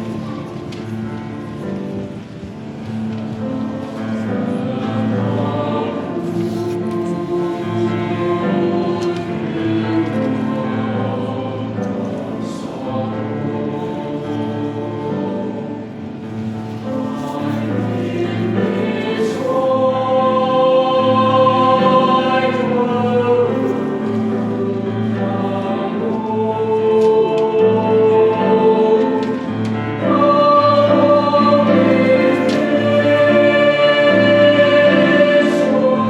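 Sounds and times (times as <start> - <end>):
choir singing in parts: 2.8 - 36.0.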